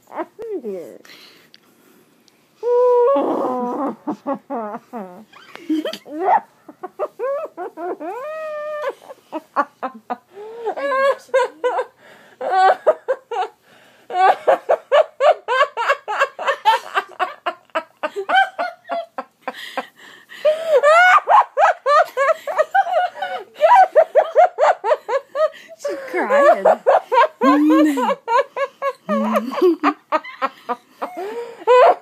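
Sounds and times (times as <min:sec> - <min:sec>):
girl laughing: 0:03.0 - 0:19.6, 0:20.4 - 0:32.0.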